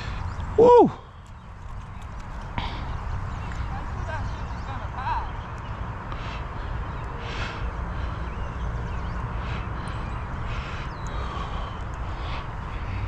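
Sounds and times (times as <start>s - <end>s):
bird calls and chirps: 0.0s - 13.0s.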